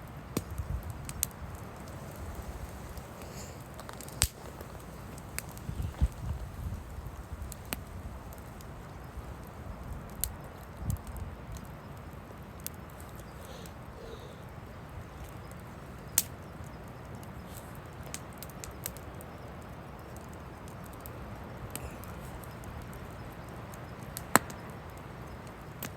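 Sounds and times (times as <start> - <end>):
low rumble of wind: 0.0 - 25.9
wood fire crackling and popping: 0.0 - 25.9.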